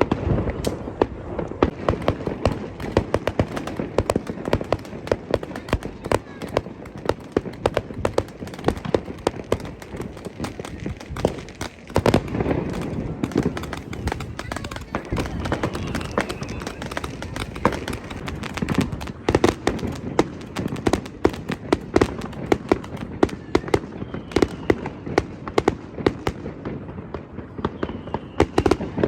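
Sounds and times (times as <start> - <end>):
fireworks and firecrackers banging: 0.0 - 29.0.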